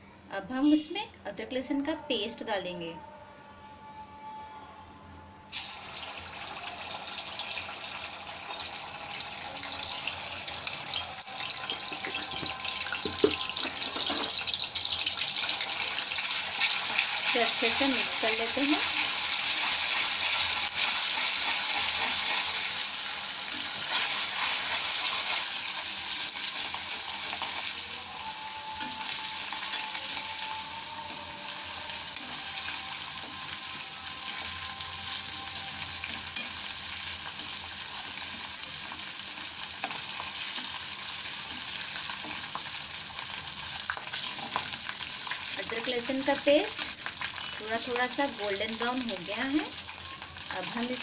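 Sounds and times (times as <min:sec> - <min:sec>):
paste sizzling in hot oil: 0:05.5 - 0:51.0.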